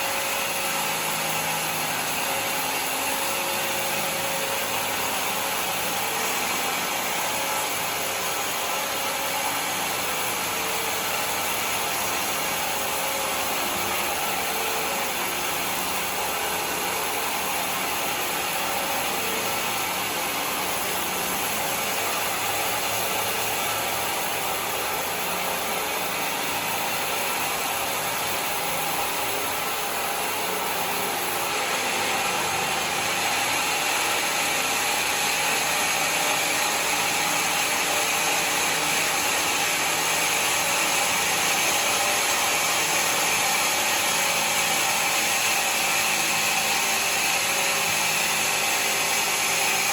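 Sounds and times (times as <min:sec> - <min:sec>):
sawmill running: 0:00.0 - 0:49.9.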